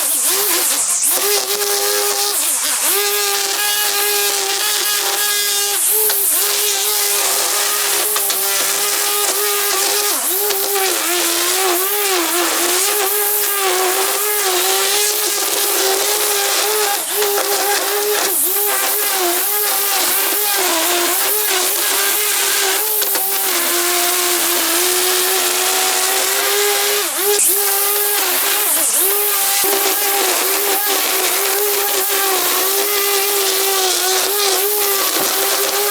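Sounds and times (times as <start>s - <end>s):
small petrol engine cutting: 0.0s - 35.9s.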